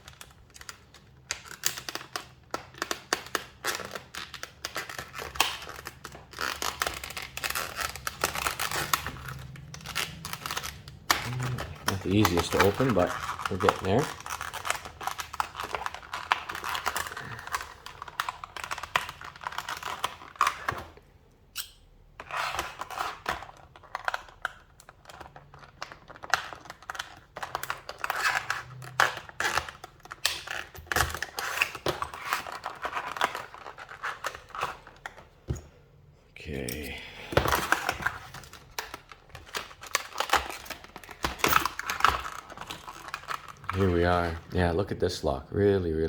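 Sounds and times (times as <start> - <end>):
plastic packaging crackling and clicking: 0.0 - 35.6, 36.5 - 45.0.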